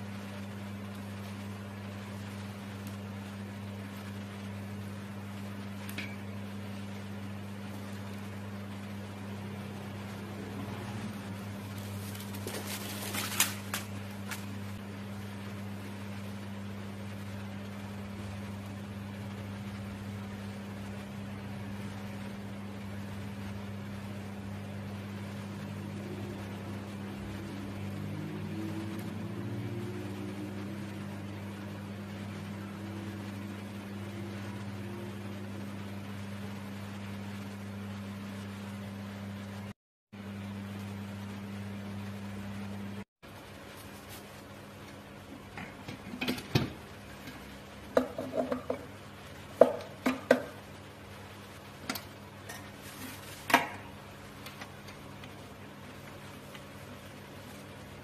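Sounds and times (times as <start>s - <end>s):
constant hiss: 0.0s - 58.0s
low electrical hum: 0.0s - 58.0s.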